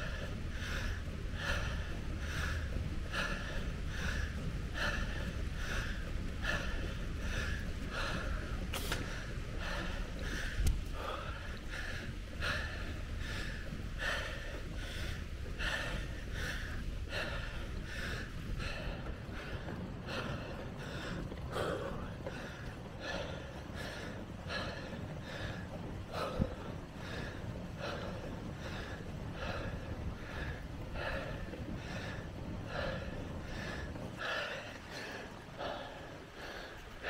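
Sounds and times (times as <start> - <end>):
person breathing hard: 0.0 - 37.0
wind rumble on microphone: 0.0 - 37.0.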